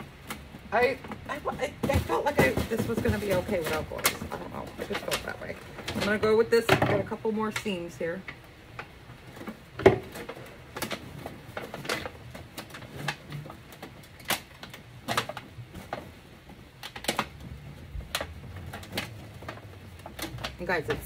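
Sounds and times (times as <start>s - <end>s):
aluminum sheet crackling: 0.0s - 21.0s.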